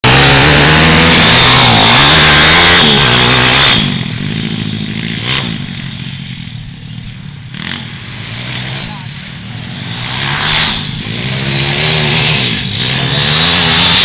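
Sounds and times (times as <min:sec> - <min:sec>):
distant pit bike engine: 0:00.0 - 0:14.0
pit bike engine revving: 0:00.0 - 0:14.0.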